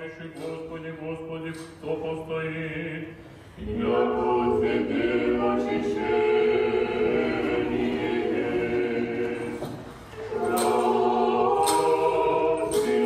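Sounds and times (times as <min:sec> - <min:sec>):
choir singing a cappella: 0:01.1 - 0:13.0.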